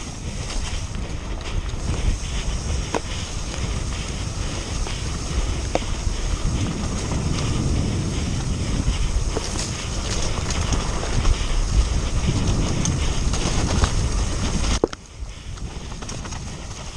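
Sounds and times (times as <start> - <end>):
bike tyres rumbling on rough ground: 0.0 - 16.9
wind buffeting microphone: 0.0 - 16.9.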